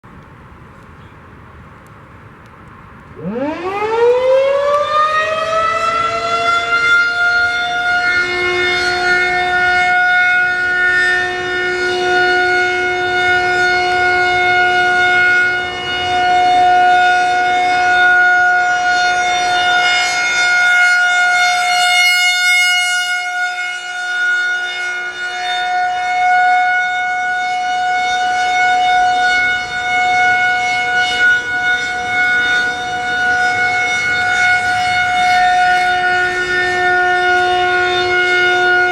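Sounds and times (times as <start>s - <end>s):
warning siren steady tone: 3.2s - 38.9s.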